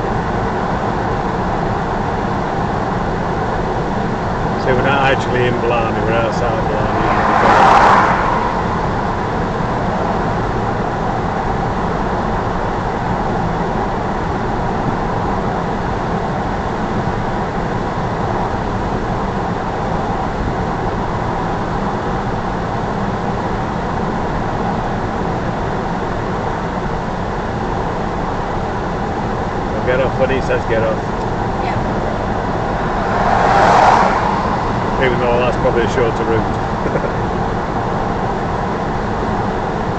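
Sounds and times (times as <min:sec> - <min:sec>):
car road noise from inside cabin: 0:00.0 - 0:39.9.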